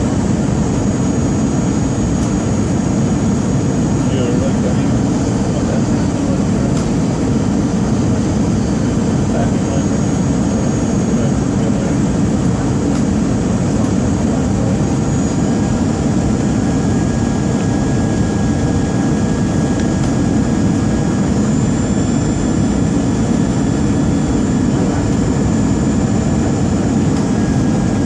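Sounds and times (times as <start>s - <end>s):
high-pitched whines: 0.0s - 28.0s
jet airliner rumble: 0.0s - 28.0s.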